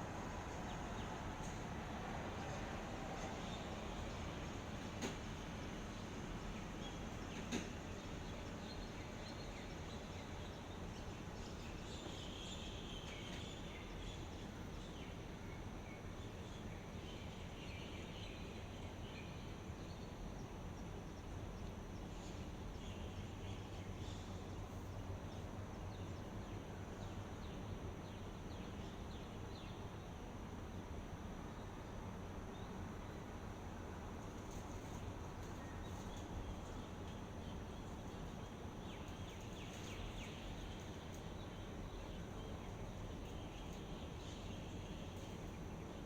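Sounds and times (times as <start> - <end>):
background hiss: 0.0 - 46.0.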